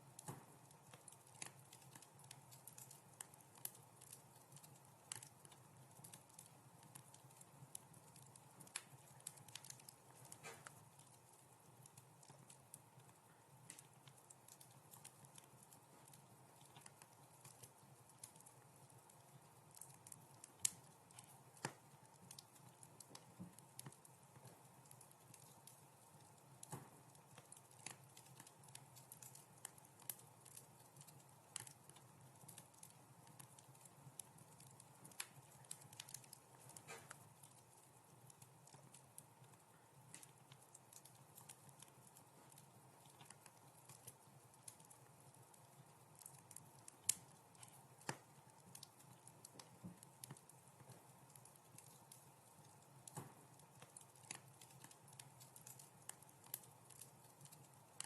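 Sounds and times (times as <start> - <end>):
sharp pops and snaps: 0.0 - 58.0
wood fire crackling: 0.0 - 58.0.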